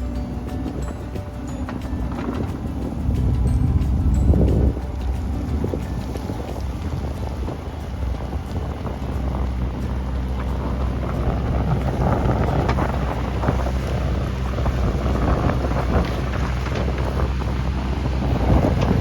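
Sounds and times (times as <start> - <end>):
excavator diesel engine running: 0.0 - 19.0
wind noise on microphone: 0.0 - 19.0.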